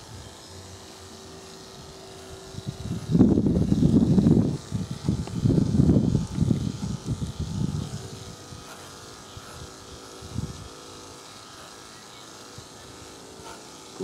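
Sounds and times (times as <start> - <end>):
electric dog clipper humming: 0.0 - 14.0.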